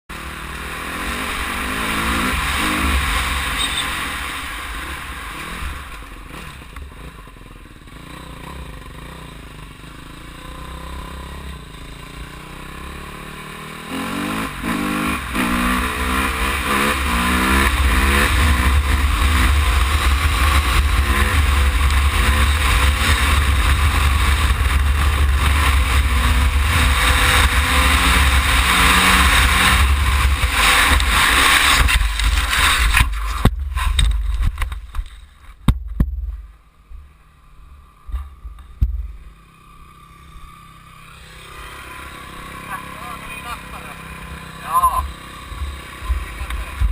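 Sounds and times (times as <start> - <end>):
dirt bike engine revving: 0.1 - 34.7, 37.1 - 46.9.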